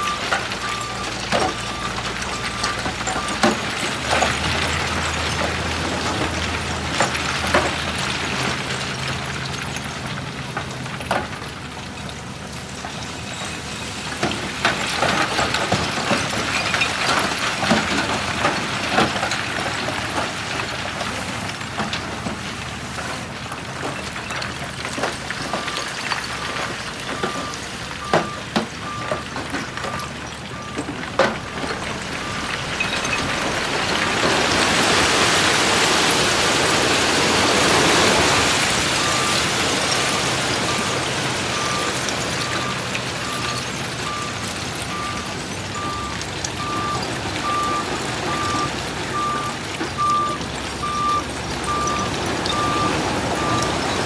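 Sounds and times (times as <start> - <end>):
gravel and stones clattering: 0.0 - 54.0
heavy machinery running: 0.0 - 54.0.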